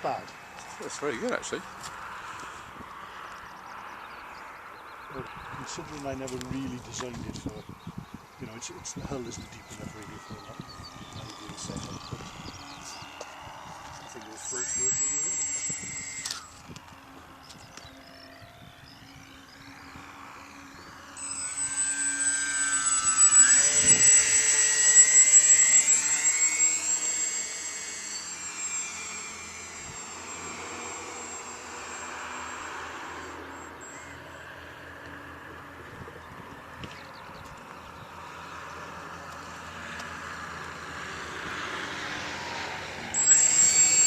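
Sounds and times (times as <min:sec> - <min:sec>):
electric motors and propellers whining: 0:00.0 - 0:44.0.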